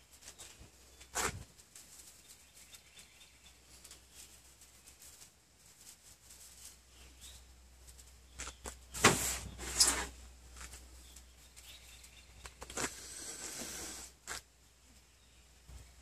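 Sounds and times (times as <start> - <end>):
dry pine needles rustling: 0.0 - 16.0.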